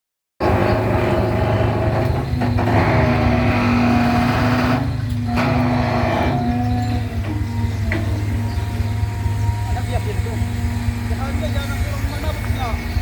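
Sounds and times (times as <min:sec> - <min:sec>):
excavator diesel engine running: 0:00.4 - 0:13.0.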